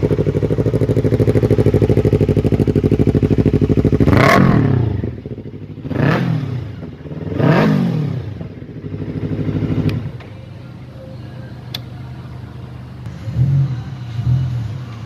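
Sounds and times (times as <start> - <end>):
motorcycle engine revving: 0.0 - 10.2, 12.8 - 15.0
motorcycle engine idling: 0.0 - 15.0.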